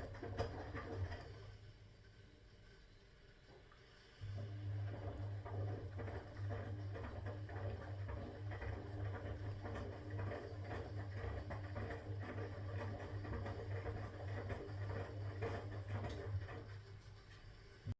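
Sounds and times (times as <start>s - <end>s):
washing machine motor hum: 0.0s - 3.5s, 4.2s - 17.9s.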